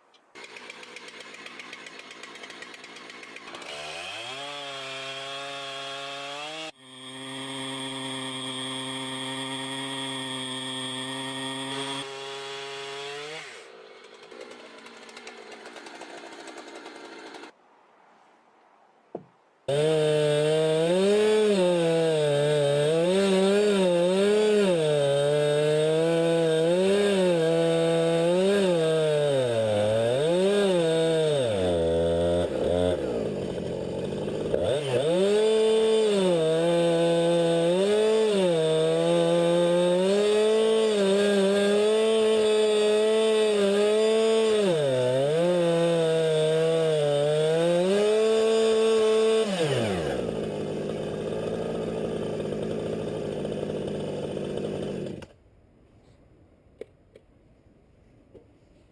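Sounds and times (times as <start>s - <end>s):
small saw engine revving: 0.4s - 17.5s, 19.7s - 55.4s.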